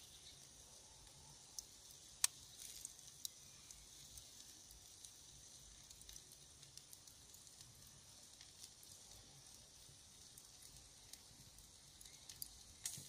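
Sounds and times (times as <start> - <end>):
fire popping and crackling: 0.0 - 13.0
meat sizzling: 0.0 - 13.0.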